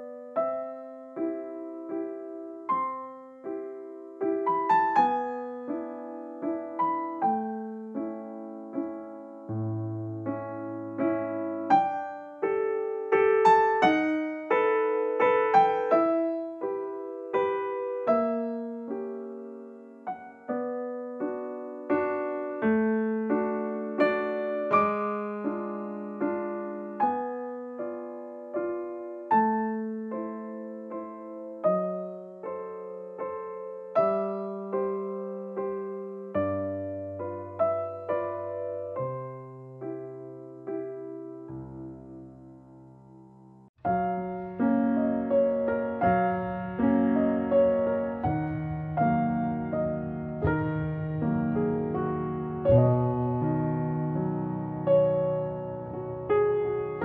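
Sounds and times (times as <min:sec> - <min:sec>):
slow piano melody: 0:00.0 - 0:57.0.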